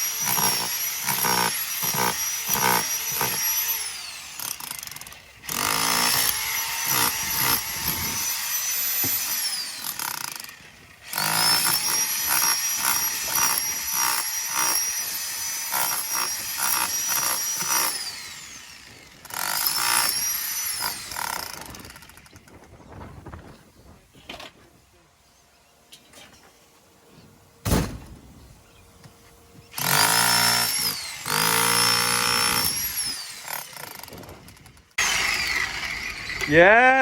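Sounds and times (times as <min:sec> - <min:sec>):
electric jackhammer hammering: 0:00.0 - 0:22.7, 0:29.8 - 0:37.0.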